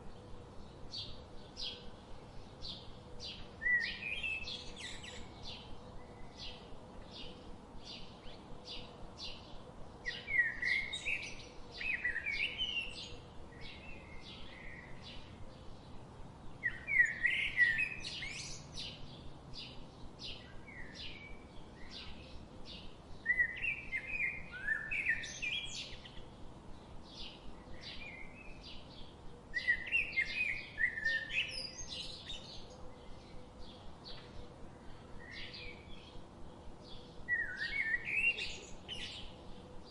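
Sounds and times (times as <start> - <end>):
birds chirping: 0.0 - 39.9
bird warbling song: 2.6 - 16.0, 16.6 - 39.9.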